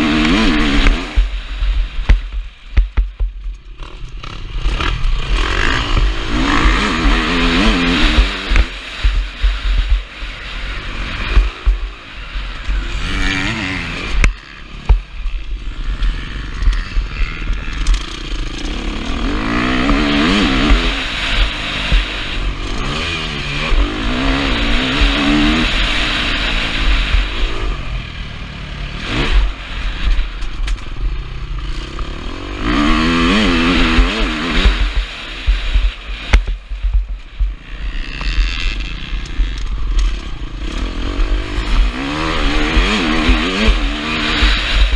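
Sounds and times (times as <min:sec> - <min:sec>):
clatter: 0:00.0 - 0:44.9
motorcycle engine revving: 0:00.0 - 0:44.9.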